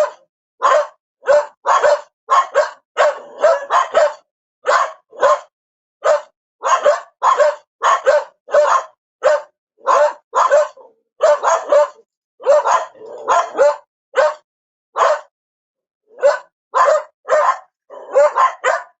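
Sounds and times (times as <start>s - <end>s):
dog barking: 0.0s - 15.3s, 16.1s - 19.0s.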